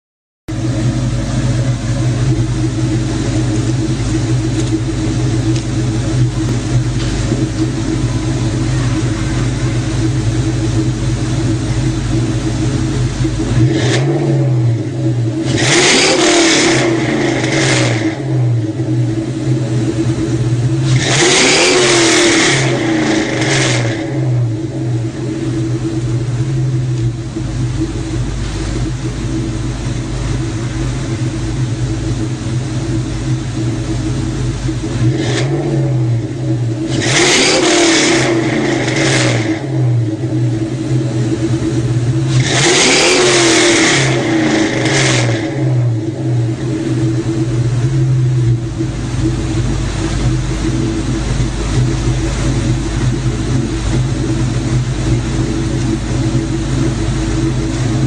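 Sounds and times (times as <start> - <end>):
car engine idling and revving: 0.5 - 58.0.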